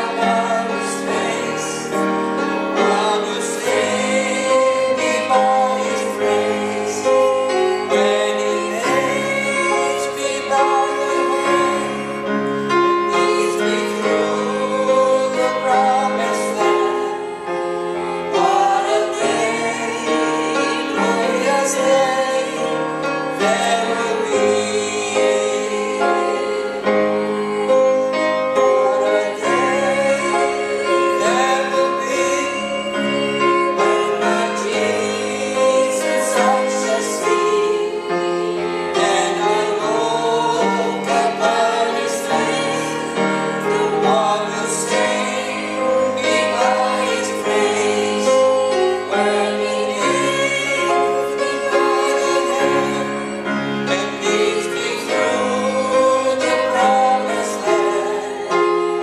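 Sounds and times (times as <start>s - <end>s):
group singing a hymn in harmony: 0.0s - 59.0s
instrumental accompaniment: 0.0s - 59.0s.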